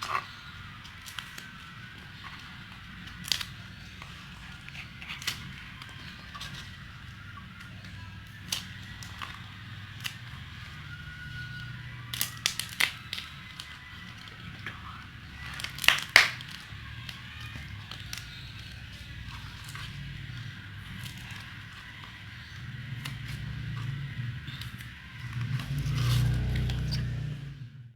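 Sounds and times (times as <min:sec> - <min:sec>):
clay cracking: 0:00.0 - 0:27.3.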